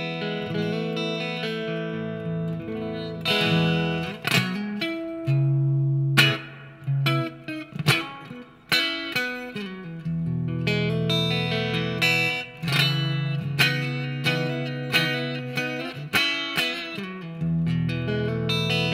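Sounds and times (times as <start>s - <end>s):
electric guitar chords ringing: 0.0s - 18.9s
sharp guitar strums: 0.0s - 18.9s.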